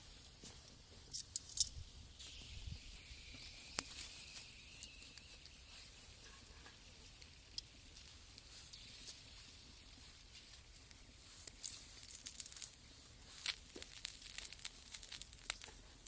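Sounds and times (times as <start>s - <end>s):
fire popping: 0.0s - 16.0s
wood fire crackling: 0.0s - 16.0s
sharp crack of fire: 1.1s - 16.0s.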